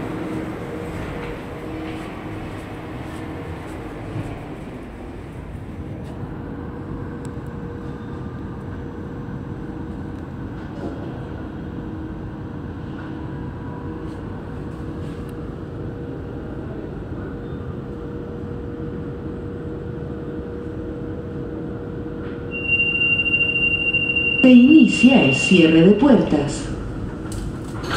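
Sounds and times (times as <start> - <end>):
train humming and rumbling: 0.0 - 27.9.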